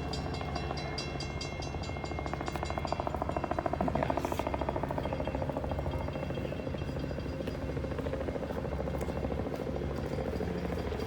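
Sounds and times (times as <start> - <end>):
helicopter rotor chopping: 0.0 - 11.0.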